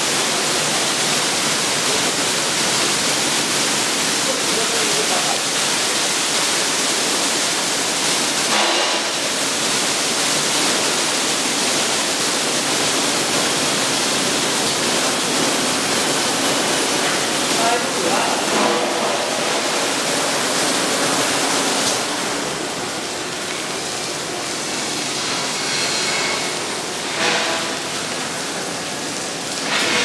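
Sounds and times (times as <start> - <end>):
car wash water spraying: 0.0 - 30.0.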